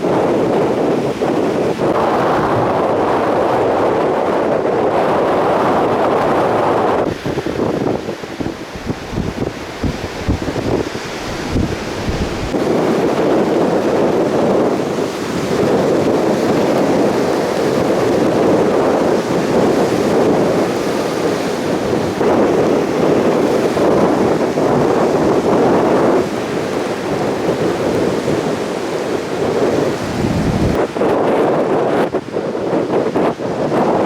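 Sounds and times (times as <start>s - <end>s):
heavy surf breaking on beach: 0.0s - 34.0s
wind buffeting microphone: 0.0s - 34.0s.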